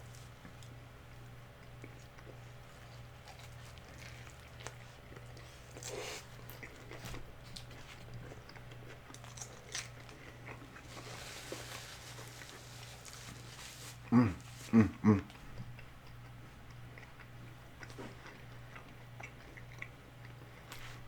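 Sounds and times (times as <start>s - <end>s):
chewing crispy fried food: 0.0s - 21.0s.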